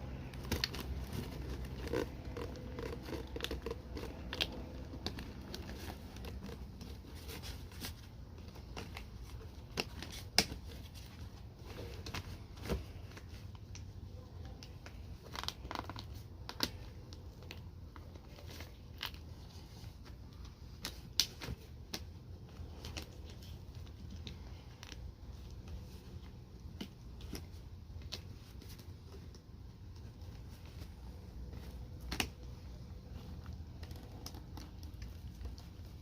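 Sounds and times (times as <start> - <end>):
packaging clicks and rustles: 0.1 - 36.0.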